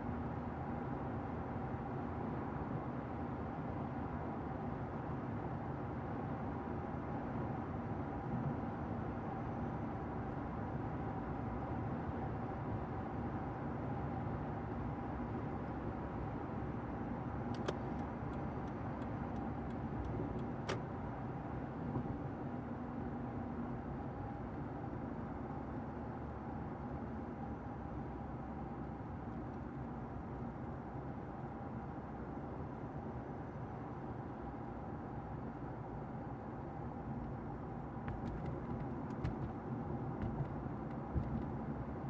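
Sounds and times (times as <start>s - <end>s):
car interior road and engine rumble: 0.0s - 42.0s.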